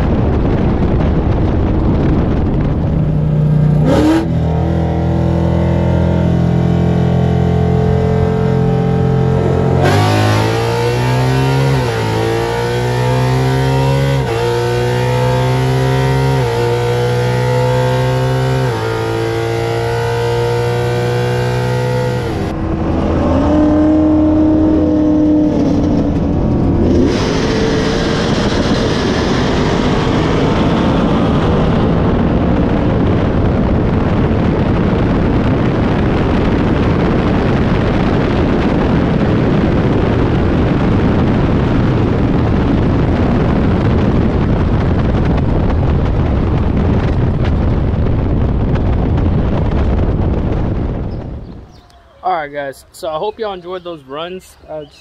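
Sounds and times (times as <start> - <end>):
car engine at full throttle: 0.0 - 51.8
wind rush: 0.0 - 55.0.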